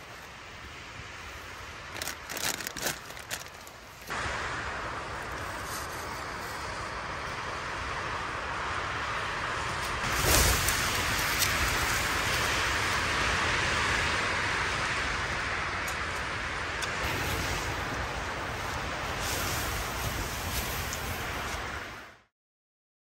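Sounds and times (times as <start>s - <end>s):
wind and snow hissing on tent: 0.0s - 22.3s.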